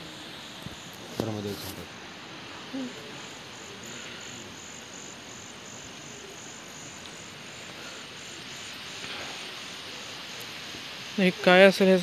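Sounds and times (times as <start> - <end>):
insect trilling: 0.0 - 12.0
outdoor hiss: 0.0 - 12.0.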